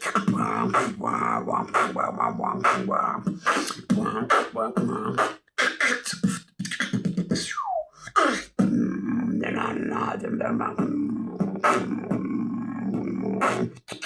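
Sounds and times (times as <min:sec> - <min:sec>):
beatboxing mouth clicks: 0:00.0 - 0:09.0, 0:09.8 - 0:14.0.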